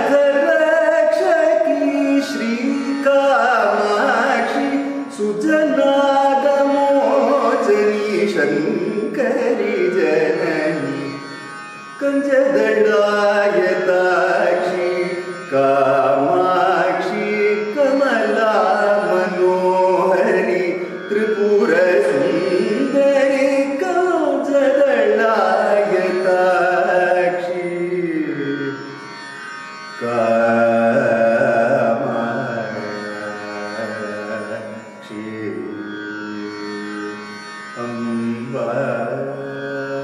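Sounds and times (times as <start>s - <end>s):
man singing devotional song: 0.0s - 29.2s, 29.9s - 40.0s.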